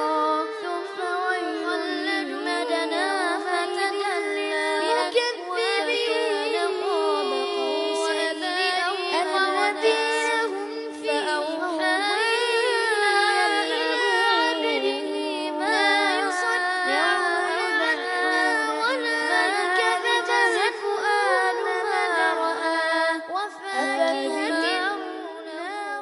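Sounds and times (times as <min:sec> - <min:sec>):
person chanting melodically: 0:00.0 - 0:26.0.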